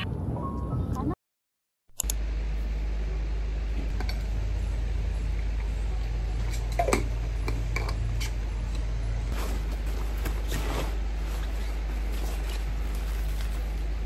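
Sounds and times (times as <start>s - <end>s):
low room hum: 2.0s - 14.0s.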